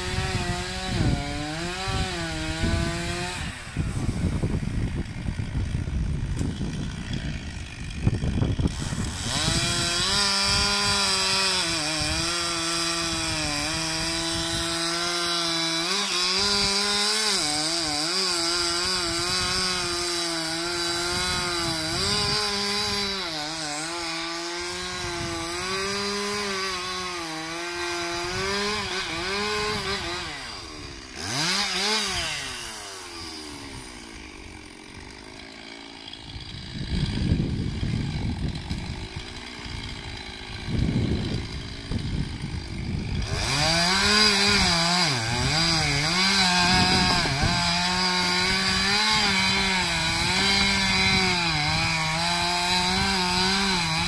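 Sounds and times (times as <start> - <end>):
chainsaw cutting into wood: 0.0 - 54.0.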